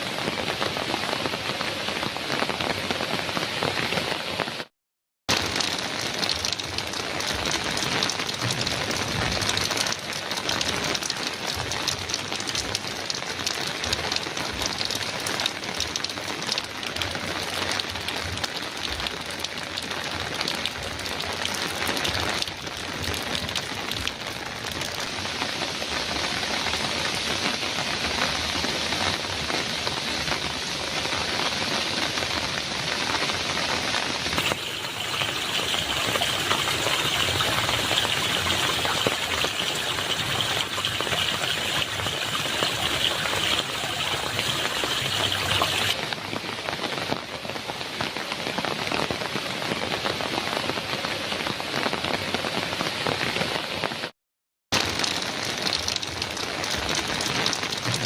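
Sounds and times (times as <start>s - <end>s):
heavy rain on a metal roof: 0.0s - 4.7s, 5.3s - 58.0s.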